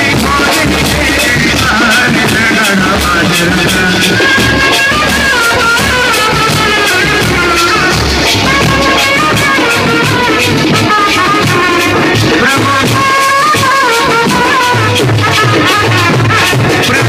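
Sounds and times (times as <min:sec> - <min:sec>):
drum and percussion beat: 0:00.0 - 0:17.0
street brass band playing: 0:00.0 - 0:17.0.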